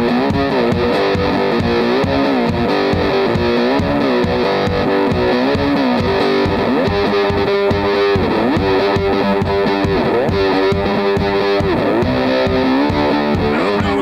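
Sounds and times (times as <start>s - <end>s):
distorted electric guitar: 0.0s - 14.0s
steady low beat: 0.1s - 14.0s.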